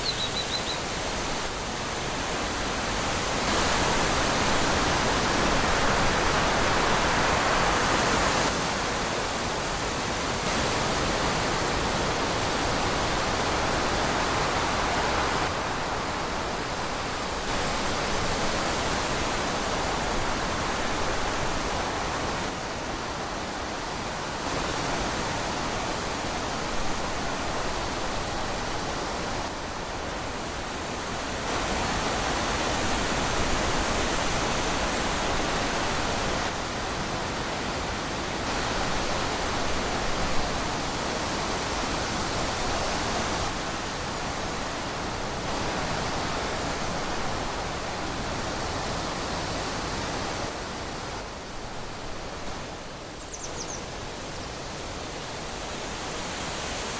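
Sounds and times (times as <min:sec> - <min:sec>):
wind rushing through trees: 0:00.0 - 0:56.9.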